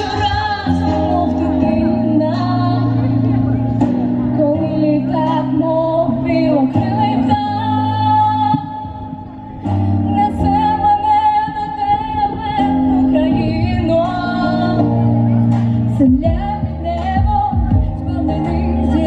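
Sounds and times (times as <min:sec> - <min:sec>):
woman singing: 0:00.0 - 0:03.3, 0:04.3 - 0:09.3, 0:10.0 - 0:19.0.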